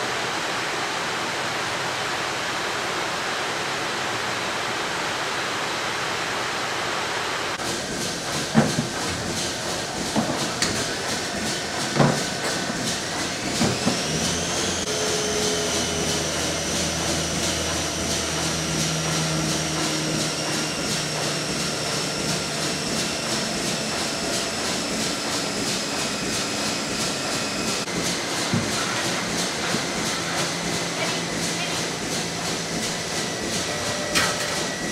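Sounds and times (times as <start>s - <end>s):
high machine whine: 0.0s - 34.9s
machines humming and hissing: 0.0s - 34.9s.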